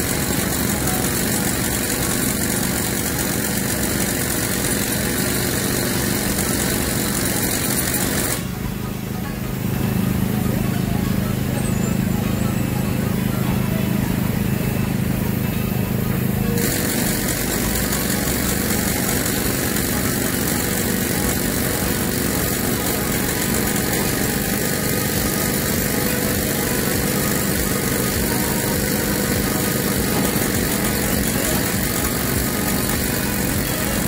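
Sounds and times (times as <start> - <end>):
excavator diesel engine droning: 0.0 - 34.0.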